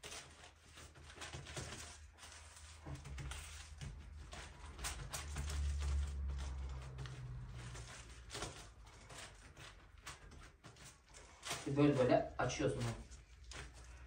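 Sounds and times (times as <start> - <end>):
gloves and paper crinkling: 0.0 - 14.0.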